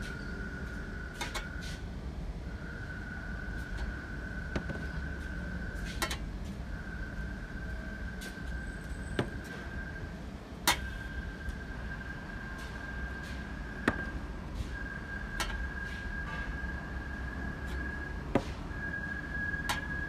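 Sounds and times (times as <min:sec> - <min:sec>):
high-pitched whine: 0:00.0 - 0:20.0.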